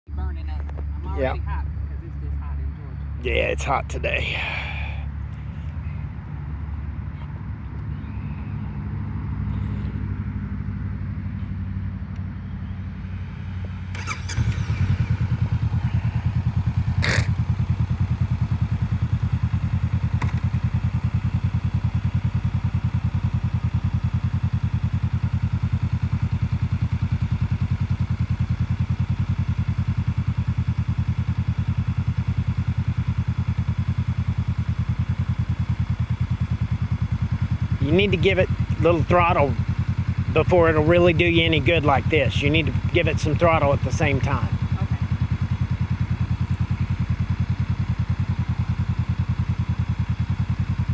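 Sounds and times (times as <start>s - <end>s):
motorcycle engine idling: 4.1s - 50.9s.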